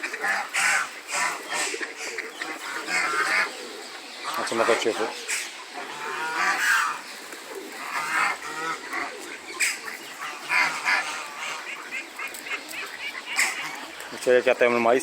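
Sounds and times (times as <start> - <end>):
geese and ducks honking: 0.0 - 15.0.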